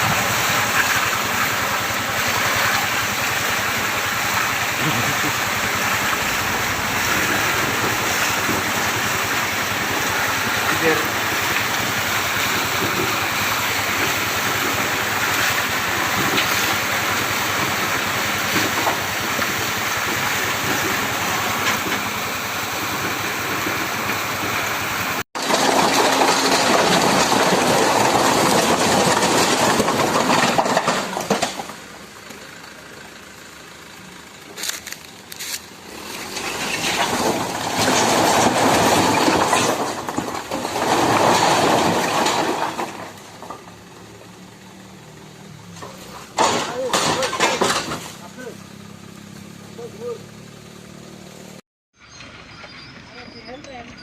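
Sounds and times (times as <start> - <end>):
dump truck engine running: 0.0 - 54.0.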